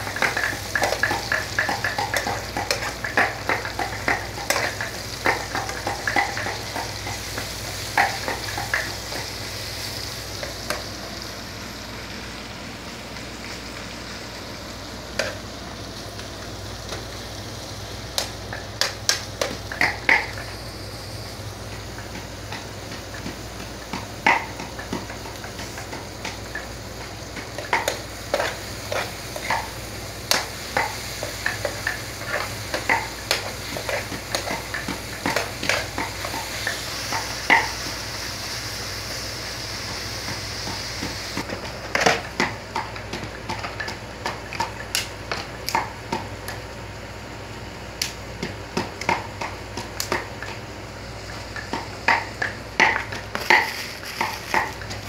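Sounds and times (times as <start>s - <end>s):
onions sizzling in a pan: 0.0s - 55.0s.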